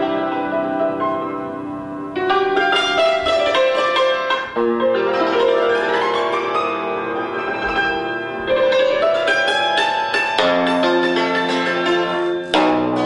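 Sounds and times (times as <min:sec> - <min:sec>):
cimbalom played with hammers: 0:00.0 - 0:13.0.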